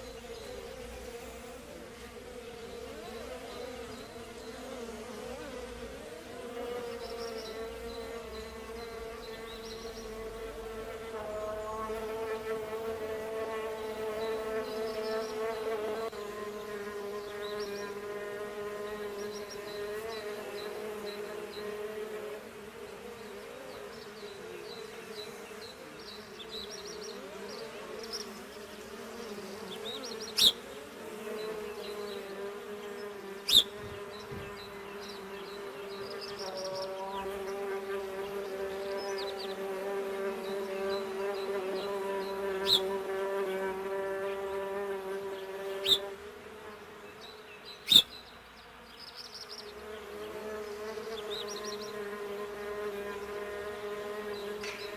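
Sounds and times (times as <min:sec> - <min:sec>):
bee buzzing: 0:00.0 - 0:54.9.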